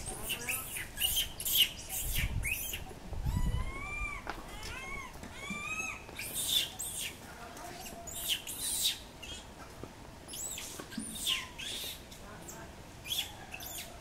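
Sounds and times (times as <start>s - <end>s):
high-pitched animal calls: 0.0s - 9.5s, 10.3s - 12.0s, 13.0s - 14.0s.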